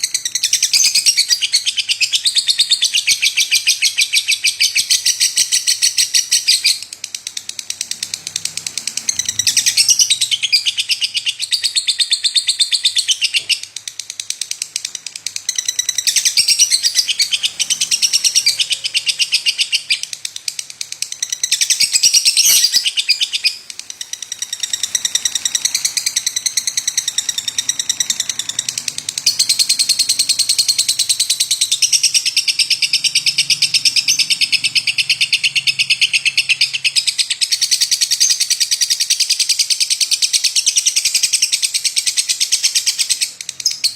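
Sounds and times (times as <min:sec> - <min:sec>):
lovebird chattering song: 0:00.0 - 0:43.9.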